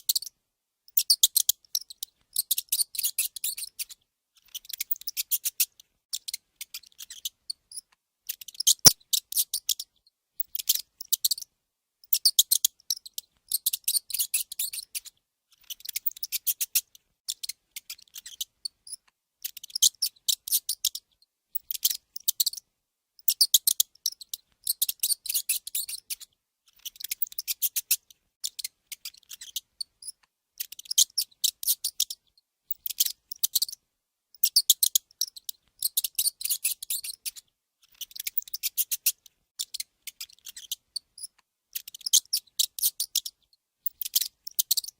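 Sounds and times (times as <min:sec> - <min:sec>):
mouse squeaking and chittering: 0:00.0 - 0:33.8, 0:34.4 - 0:44.9.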